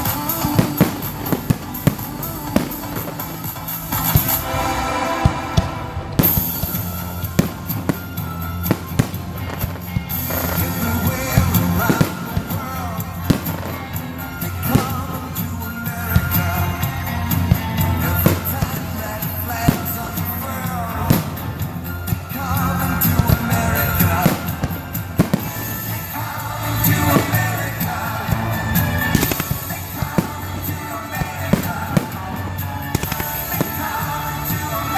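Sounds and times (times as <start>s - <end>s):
fireworks banging: 0.0s - 34.9s
loud music with singing: 0.0s - 34.9s.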